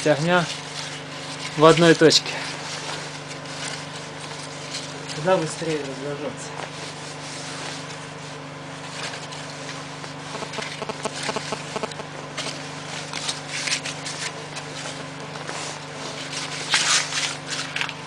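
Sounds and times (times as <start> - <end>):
paper rustling and crackling: 0.0 - 18.0
steady low hum: 0.0 - 18.0.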